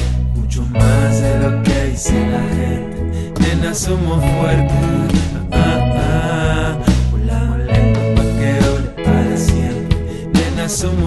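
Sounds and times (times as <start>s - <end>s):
instrumental pop music: 0.0s - 11.0s.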